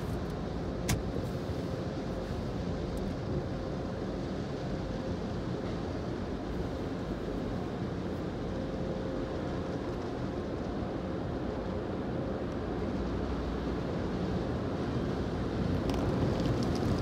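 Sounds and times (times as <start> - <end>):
car wash machinery rumble: 0.0 - 17.0.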